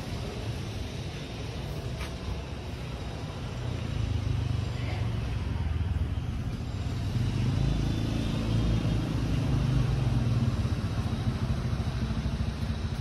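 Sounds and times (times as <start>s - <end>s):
motorbike engines rumbling: 0.0s - 13.0s.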